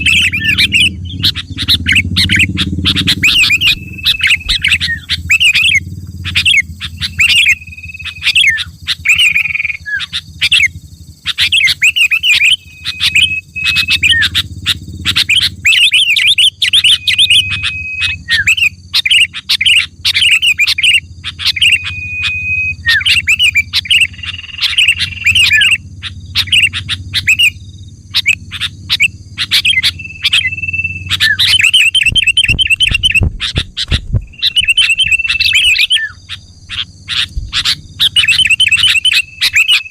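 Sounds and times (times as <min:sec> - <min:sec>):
bird chirping and whistling: 0:00.0 - 0:39.9
steady low hum: 0:00.0 - 0:39.9.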